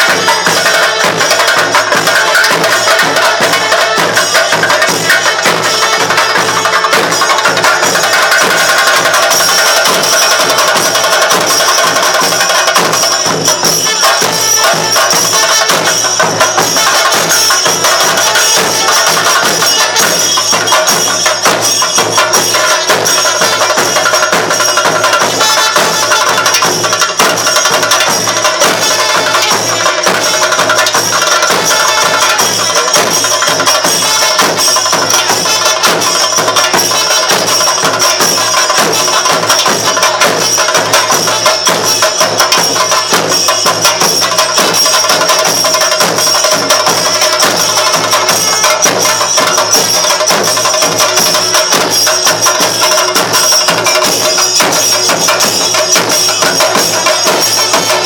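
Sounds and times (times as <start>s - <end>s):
fast loud drumming: 0.0s - 58.0s
jingling metal cymbals: 0.0s - 58.0s.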